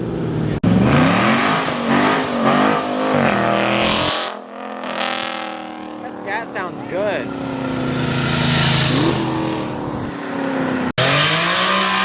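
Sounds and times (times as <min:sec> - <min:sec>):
car engine revving hard: 0:00.6 - 0:05.7, 0:07.1 - 0:12.0.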